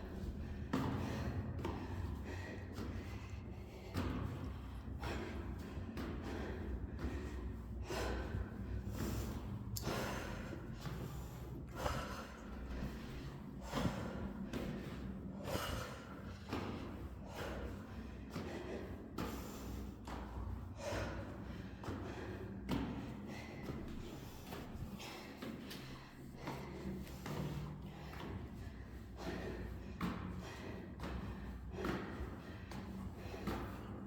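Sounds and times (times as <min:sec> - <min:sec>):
footsteps echoing in stairwell: 0:00.0 - 0:34.0
person breathing heavily: 0:00.0 - 0:34.0.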